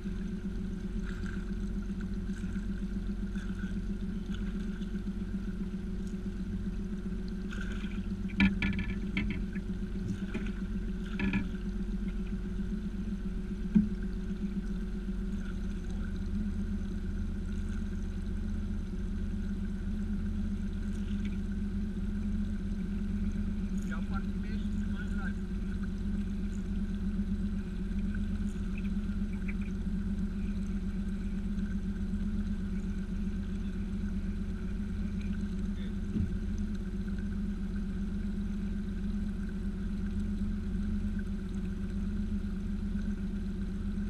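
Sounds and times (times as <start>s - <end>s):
boat motor humming: 0.0s - 44.0s.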